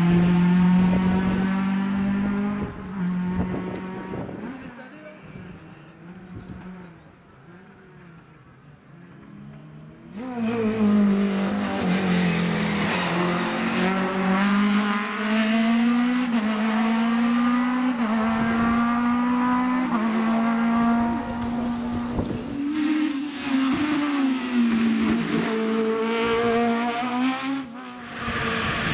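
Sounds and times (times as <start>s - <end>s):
rally car engine accelerating: 0.0s - 8.0s, 9.2s - 28.9s.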